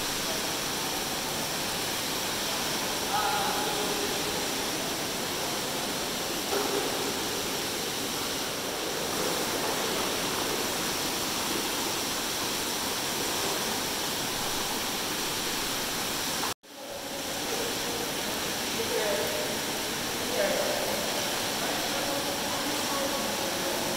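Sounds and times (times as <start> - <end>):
running water rushing: 0.0 - 23.9.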